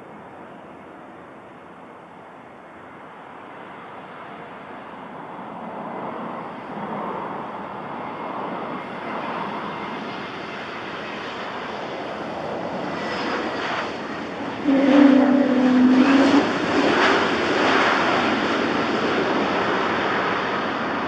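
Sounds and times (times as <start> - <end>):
airplane engine rushing: 0.0 - 21.0.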